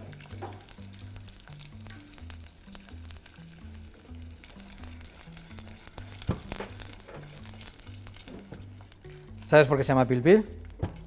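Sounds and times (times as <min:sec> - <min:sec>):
hot oil crackling: 0:00.0 - 0:11.0.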